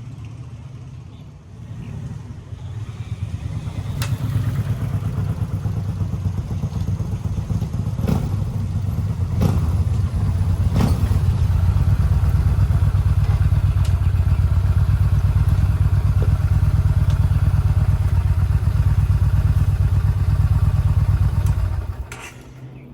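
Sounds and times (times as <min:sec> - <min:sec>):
motorcycle engine idling: 0:01.9 - 0:22.9.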